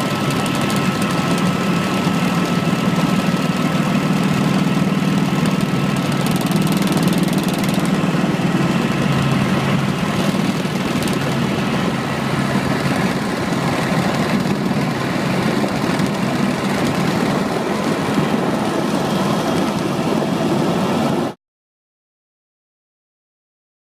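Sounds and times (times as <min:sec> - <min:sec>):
helicopter engine and rotor drone: 0:00.0 - 0:21.4.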